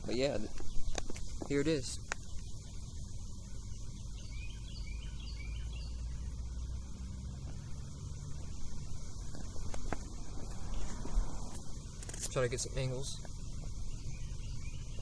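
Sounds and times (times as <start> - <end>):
low rumble on microphone: 0.0 - 15.0
small bird chirping: 0.0 - 15.0.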